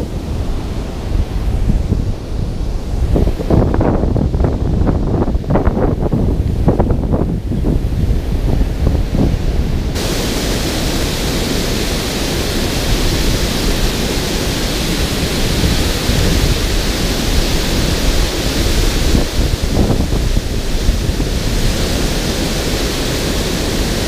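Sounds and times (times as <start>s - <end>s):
water rushing over dam spillway: 0.0s - 24.0s
wind buffeting microphone: 0.0s - 24.0s.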